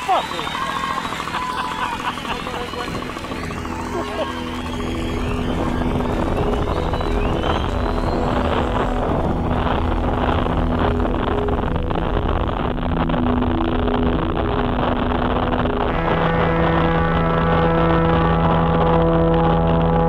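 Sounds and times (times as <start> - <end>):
wind on microphone: 0.6 - 20.0.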